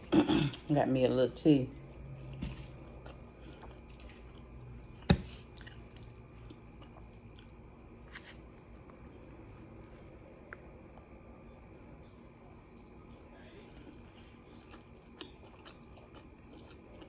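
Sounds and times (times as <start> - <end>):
person chewing: 2.2 - 11.4, 12.4 - 17.0.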